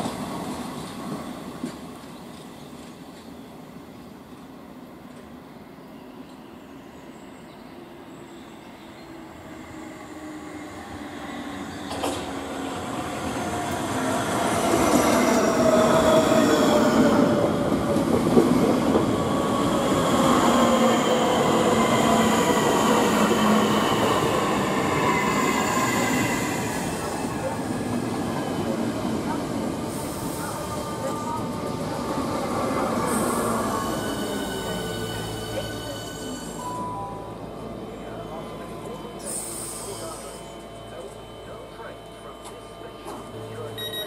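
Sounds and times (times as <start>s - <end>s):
train wheel and rail noise: 0.0s - 44.0s.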